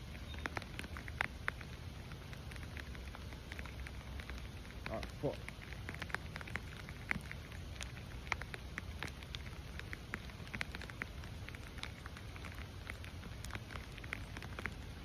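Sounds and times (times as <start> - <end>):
rain falling: 0.0 - 15.0
raindrops ticking: 0.0 - 15.0.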